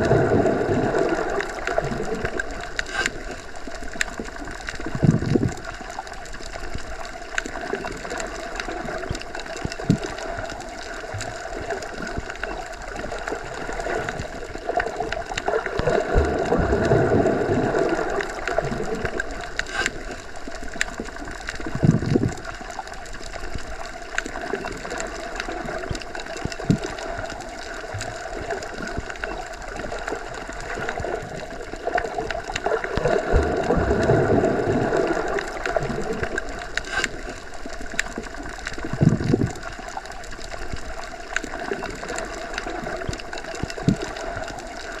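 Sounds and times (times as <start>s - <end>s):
muffled underwater rushing hum: 0.0s - 7.2s, 7.8s - 40.9s
faint clicks: 1.1s - 17.2s, 17.8s - 34.1s, 35.0s - 45.0s.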